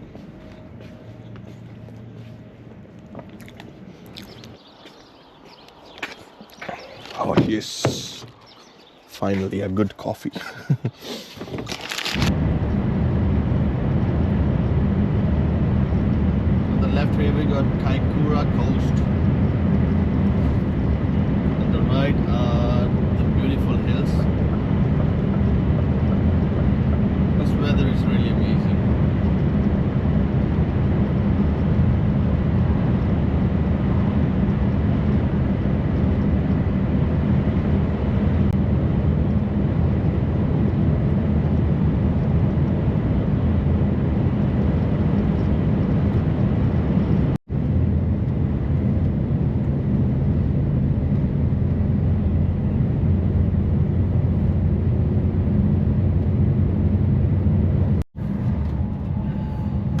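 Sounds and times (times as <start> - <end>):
truck diesel engine drone: 0.0 - 9.7, 11.0 - 60.0
road noise: 0.0 - 60.0.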